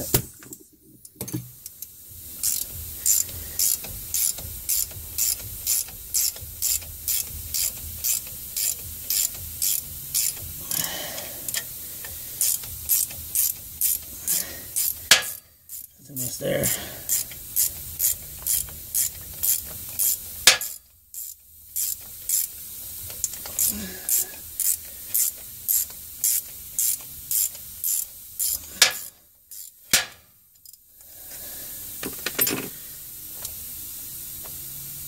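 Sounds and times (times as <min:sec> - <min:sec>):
hand ratchet clicking: 0:01.0 - 0:16.0, 0:16.7 - 0:31.1.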